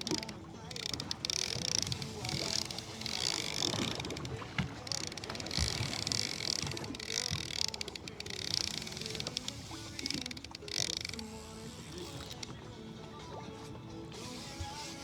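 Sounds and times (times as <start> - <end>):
boat motor running: 0.0 - 15.0
water washing along hull: 0.0 - 15.0.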